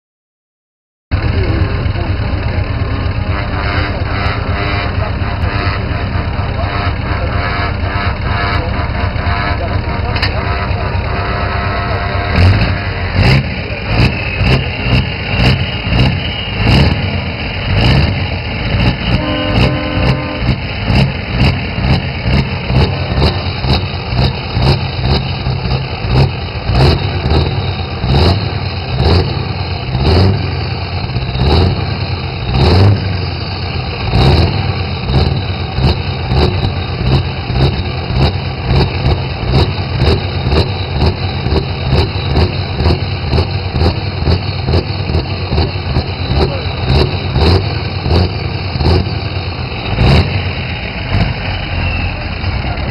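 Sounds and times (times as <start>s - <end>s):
diesel truck engine idling: 1.1s - 52.9s.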